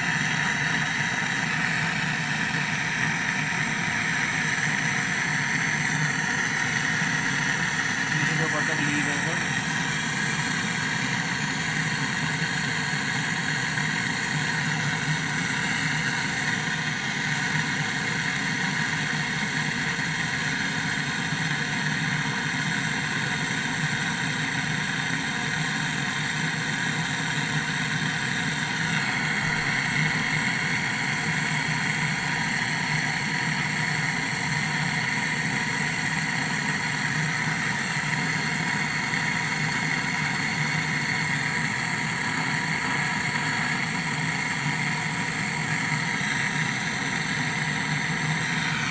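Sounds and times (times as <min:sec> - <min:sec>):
air conditioner hum and whirr: 0:00.0 - 0:24.8, 0:25.5 - 0:48.9.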